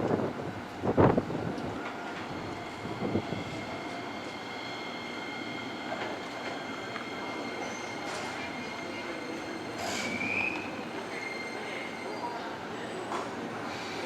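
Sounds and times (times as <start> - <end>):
train rail running noise: 0.0 - 14.0.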